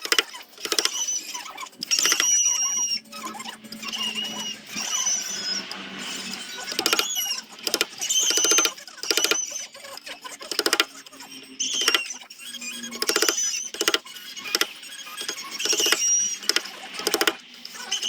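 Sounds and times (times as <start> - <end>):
abrasive squeaking on wood: 0.0 - 18.0.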